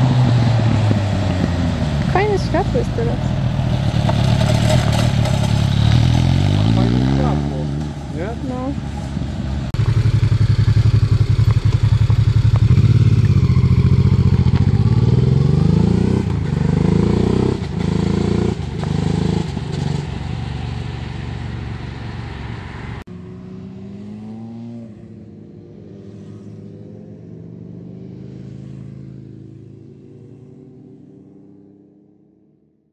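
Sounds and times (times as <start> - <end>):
distant motorcycle engine: 0.0 - 32.2
motorcycle engines revving: 0.0 - 32.2.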